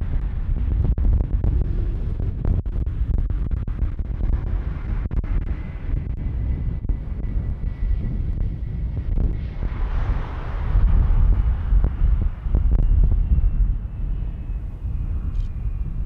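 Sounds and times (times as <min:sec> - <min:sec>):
faint high whine: 0:00.0 - 0:16.0
jet engines rumbling: 0:00.0 - 0:16.0
wind buffeting microphone: 0:00.0 - 0:16.0.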